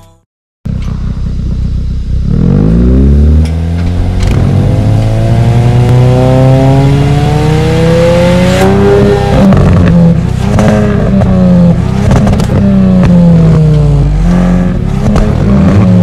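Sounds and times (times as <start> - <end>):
exhaust cracks: 0.7 - 7.0, 8.4 - 16.0
car exhaust accelerating: 0.7 - 16.0.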